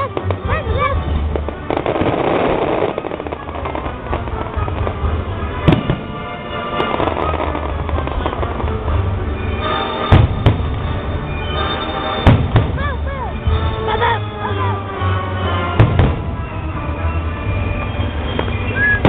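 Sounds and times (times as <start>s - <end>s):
firework bangs: 0.0s - 14.3s, 15.3s - 19.0s
fireworks crackling: 0.0s - 19.0s.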